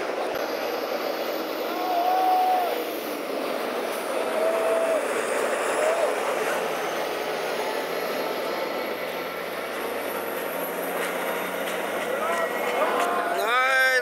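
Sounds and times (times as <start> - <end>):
cars and trucks driving past: 0.0 - 14.0.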